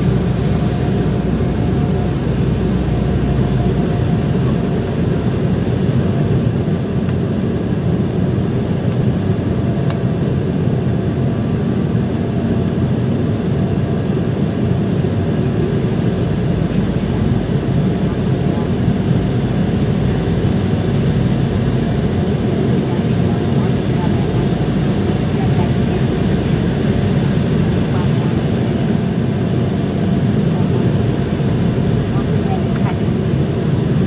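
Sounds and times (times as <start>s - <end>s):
airliner cabin engine rush: 0.0s - 34.0s.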